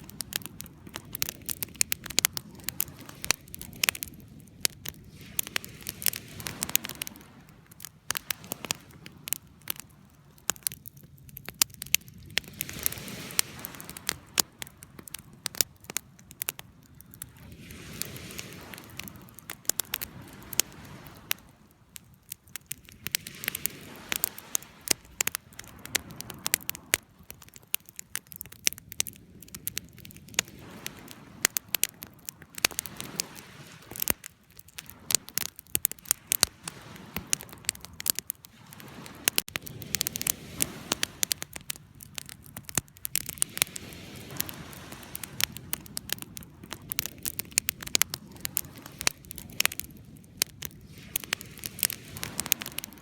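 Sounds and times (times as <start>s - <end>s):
rush of burning: 0.0s - 53.0s
wood fire crackling: 0.0s - 53.0s.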